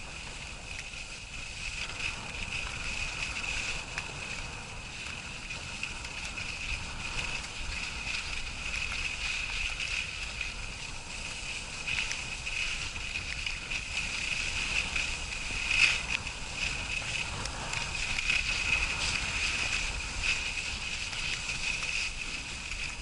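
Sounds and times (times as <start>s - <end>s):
skis sliding over snow: 0.0s - 23.0s
wind rumble on microphone: 0.0s - 23.0s.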